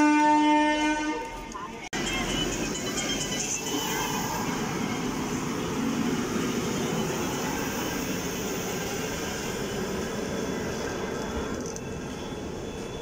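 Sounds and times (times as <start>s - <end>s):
train wheels rumbling on rails: 1.3s - 13.0s.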